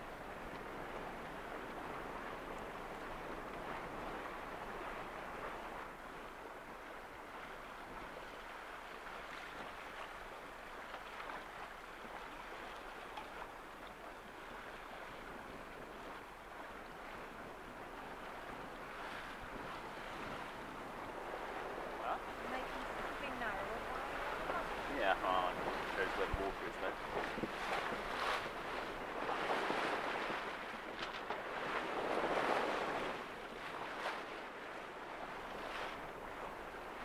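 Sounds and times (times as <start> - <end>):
sea water splashing along hull: 0.0 - 37.0.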